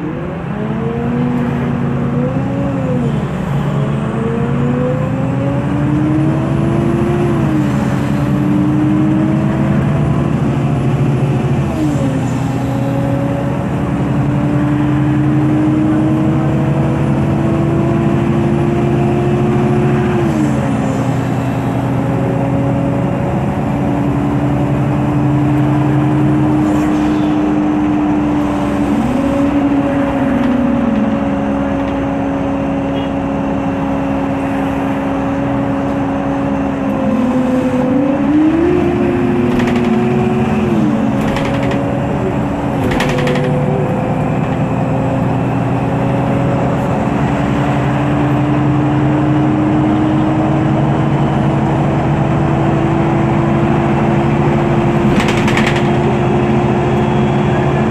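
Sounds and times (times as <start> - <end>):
bus engine running: 0.0 - 57.9.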